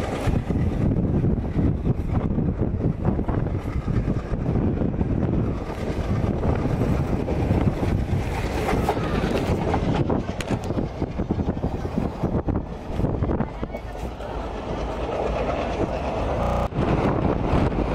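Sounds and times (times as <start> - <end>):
train coach rumbling on rails: 0.0 - 17.9
wind noise on microphone: 0.0 - 17.9.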